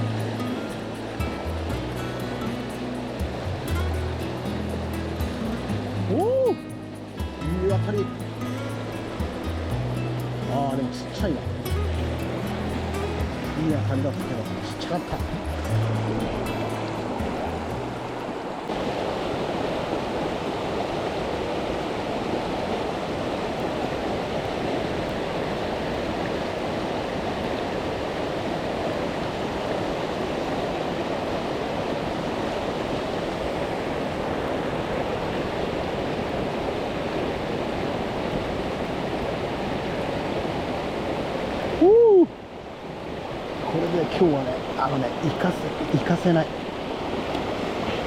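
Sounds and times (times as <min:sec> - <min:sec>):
river rushing: 0:00.0 - 0:48.0.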